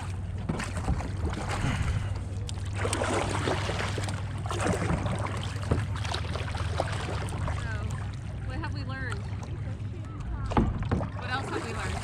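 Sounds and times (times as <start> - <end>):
paddle strokes splashing: 0.0 - 12.0.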